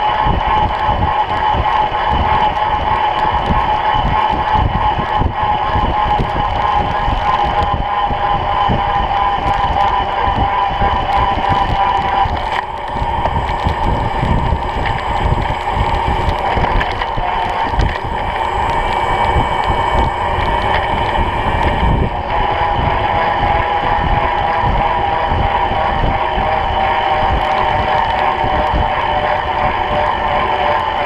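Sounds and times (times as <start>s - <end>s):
steady hum: 0.0s - 31.0s
wind buffeting microphone: 0.0s - 31.0s.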